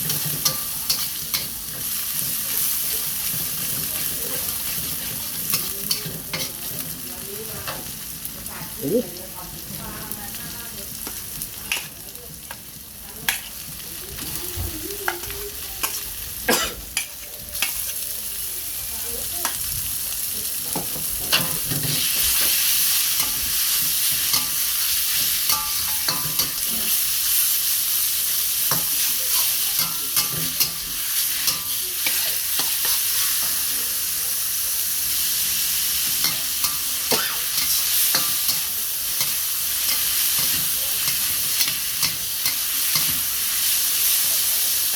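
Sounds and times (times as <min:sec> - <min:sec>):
food sizzling in a pan: 0:00.0 - 0:44.9.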